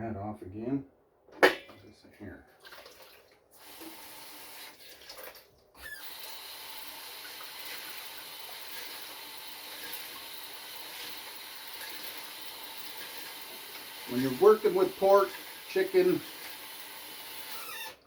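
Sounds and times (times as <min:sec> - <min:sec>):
tap water running into sink: 0:02.6 - 0:18.0.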